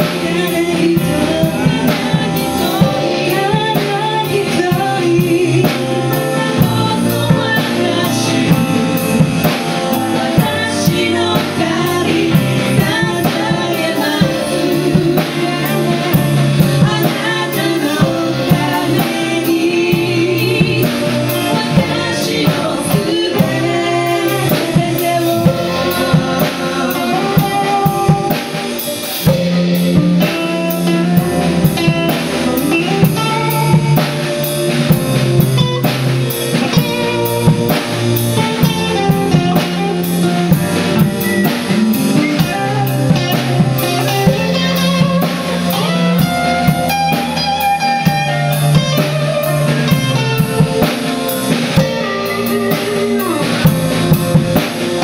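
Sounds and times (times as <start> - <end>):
bass guitar: 0.0 - 55.0
drum beat: 0.0 - 55.0
electric guitar: 0.0 - 55.0
stage piano: 0.0 - 55.0
woman singing: 0.0 - 55.0.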